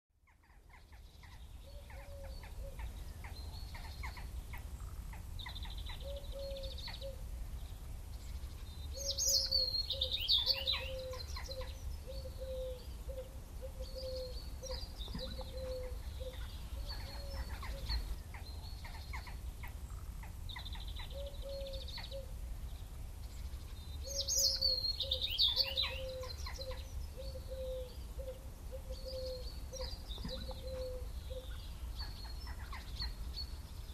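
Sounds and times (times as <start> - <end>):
birds calling: 0.2 - 33.9.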